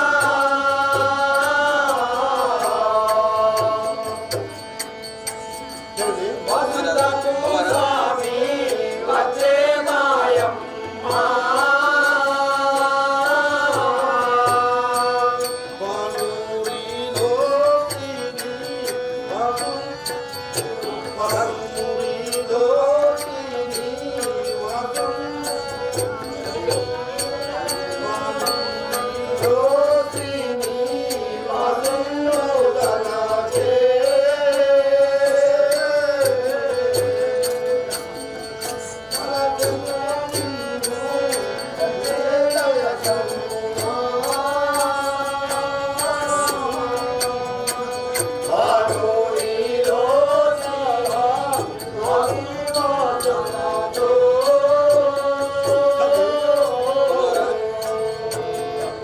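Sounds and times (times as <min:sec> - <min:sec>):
person singing a chant-like melody: 0:00.0 - 0:59.0.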